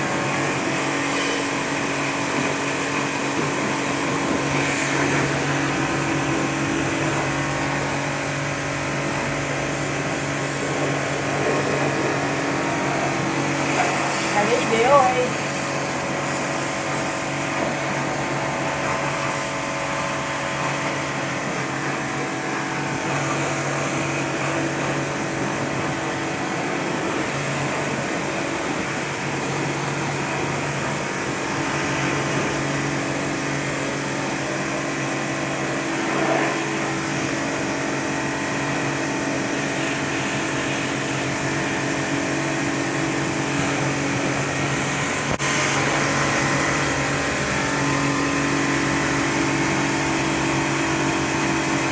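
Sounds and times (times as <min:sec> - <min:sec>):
water spray hissing: 0:00.0 - 0:33.6, 0:36.0 - 0:51.9
pressure washer motor hum: 0:00.0 - 0:51.9.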